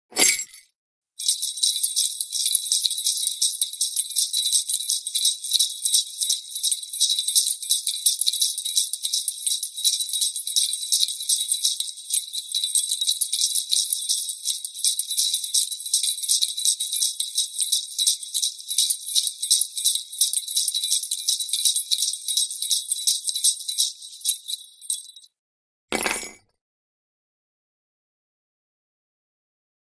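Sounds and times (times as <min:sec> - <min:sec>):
small jingle bells shaken: 0:00.2 - 0:00.6, 0:01.2 - 0:25.3.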